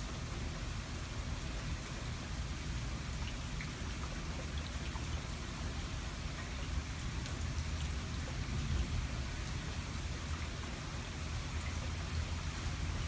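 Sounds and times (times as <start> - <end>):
continuous low rumble: 0.0 - 13.0
steady rain: 0.0 - 13.0.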